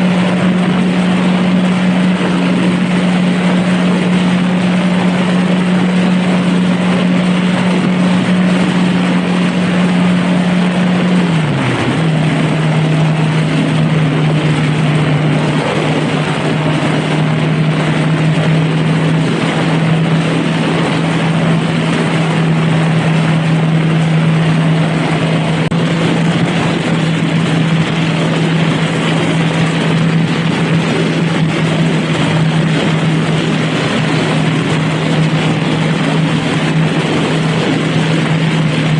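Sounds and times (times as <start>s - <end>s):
motorcycle engine cruising: 0.0s - 38.9s
road noise: 0.0s - 38.9s
rush of wind: 0.0s - 38.9s.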